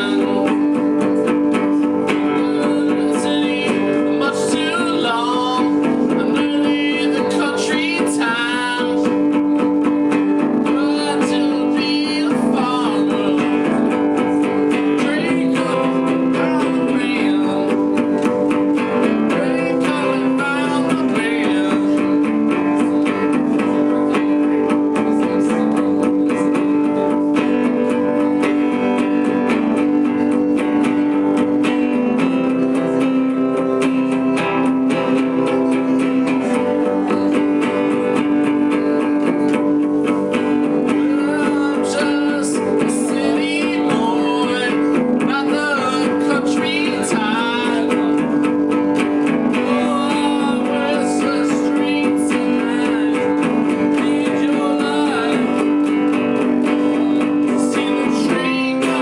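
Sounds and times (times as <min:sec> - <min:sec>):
acoustic guitar playing: 0:00.0 - 0:59.0.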